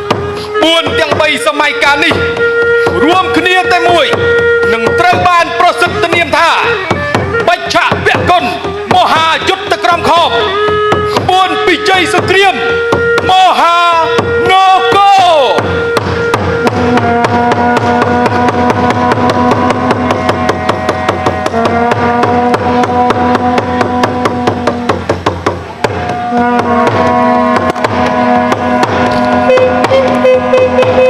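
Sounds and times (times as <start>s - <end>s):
melody of long held notes: 0.0s - 7.5s, 8.5s - 31.0s
fast drum strokes: 0.0s - 31.0s.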